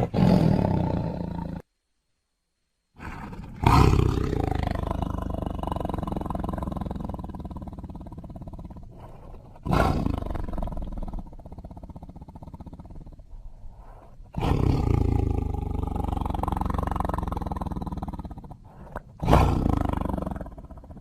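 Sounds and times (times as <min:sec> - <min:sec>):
tiger roaring: 0:00.0 - 0:01.6, 0:03.0 - 0:13.3, 0:13.9 - 0:21.0.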